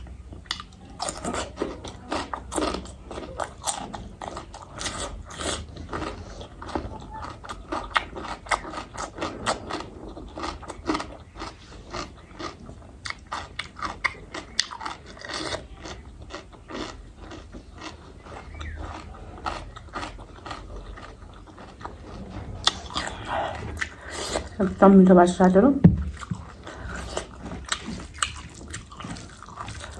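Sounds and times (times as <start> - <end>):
person chewing and biting food: 0.0 - 24.6, 26.0 - 29.9.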